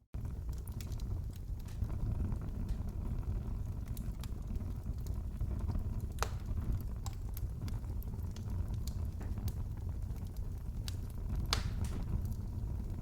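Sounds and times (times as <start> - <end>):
wood fire crackling: 0.2 - 13.0.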